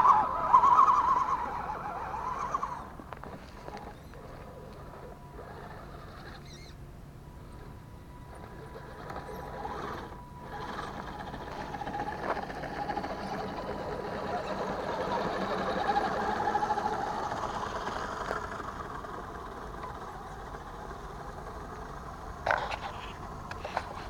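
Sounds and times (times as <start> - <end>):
toy truck motor whining: 0.0 - 24.0.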